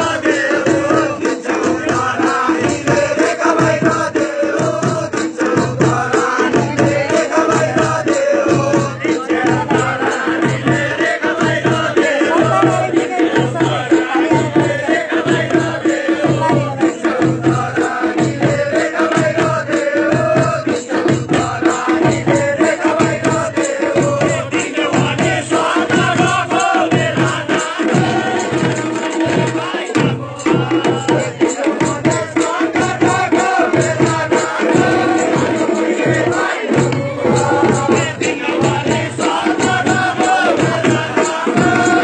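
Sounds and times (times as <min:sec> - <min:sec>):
people singing: 0:00.0 - 0:42.0
rattling percussion: 0:00.0 - 0:42.0
steady drum beat: 0:00.0 - 0:42.0.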